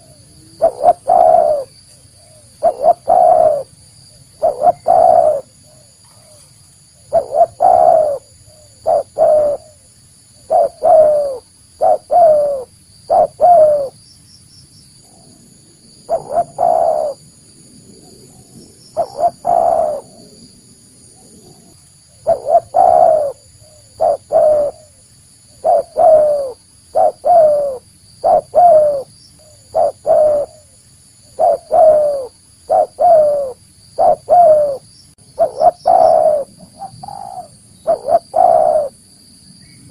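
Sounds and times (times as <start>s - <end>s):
dove cooing: 0.0s - 14.0s, 15.1s - 39.0s.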